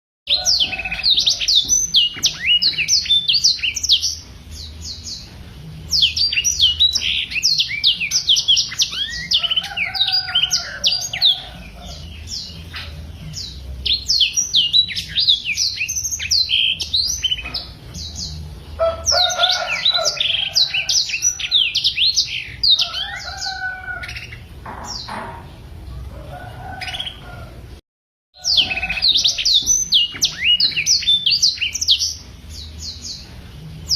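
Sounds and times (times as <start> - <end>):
canary twittering song: 0.3 - 25.7, 26.3 - 27.5, 28.4 - 33.9.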